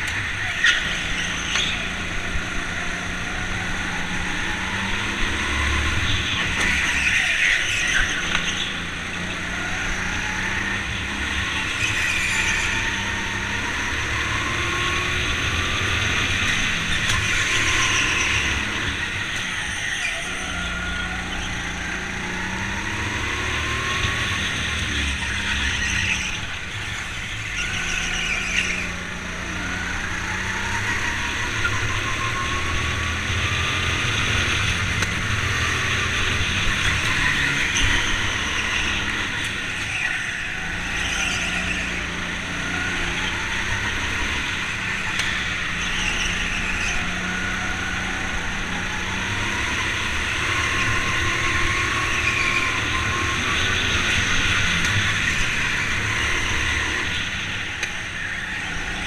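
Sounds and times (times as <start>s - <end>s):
go-kart motor revving: 0.0s - 59.0s.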